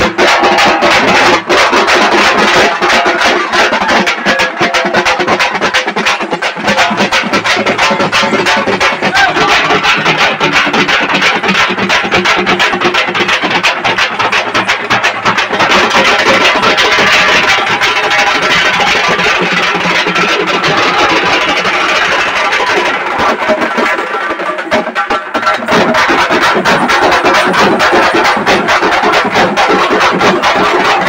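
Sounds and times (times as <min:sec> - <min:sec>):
frame drums played together: 0:00.0 - 0:31.0.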